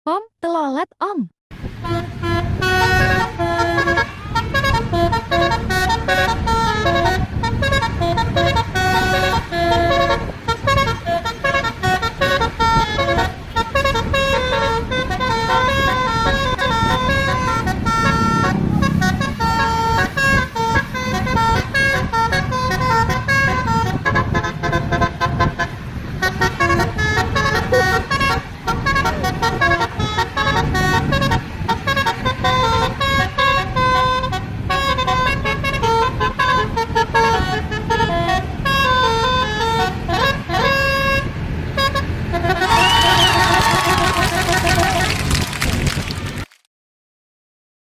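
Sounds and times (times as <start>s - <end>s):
bus engine rumbling: 1.6s - 46.6s
musical air horn tune: 1.8s - 45.4s.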